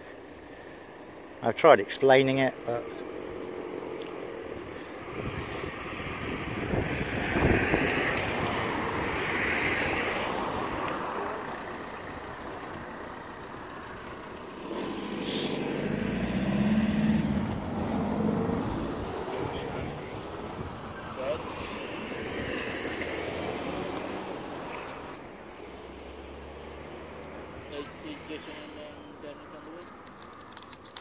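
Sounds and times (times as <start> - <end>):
cars driving past: 0.8 - 30.4.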